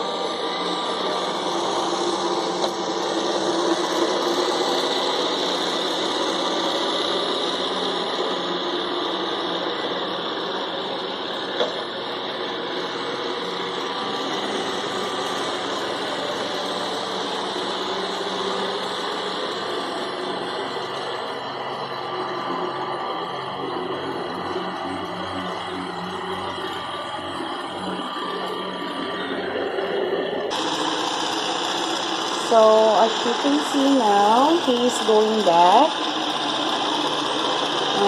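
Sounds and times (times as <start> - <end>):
robot vacuum whirring: 0.0 - 38.0.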